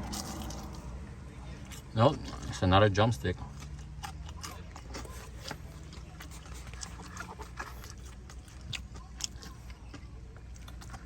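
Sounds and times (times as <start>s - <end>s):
person chewing crispy chicken: 0.0s - 11.0s.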